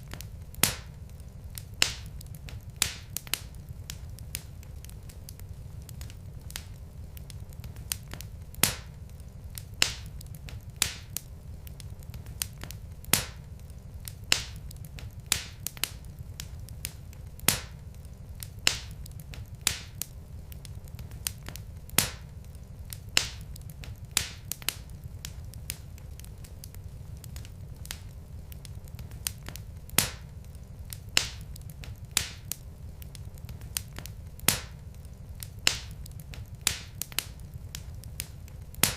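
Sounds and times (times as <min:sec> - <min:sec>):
low fire rumble: 0:00.0 - 0:38.9
wood fire popping: 0:00.0 - 0:38.9.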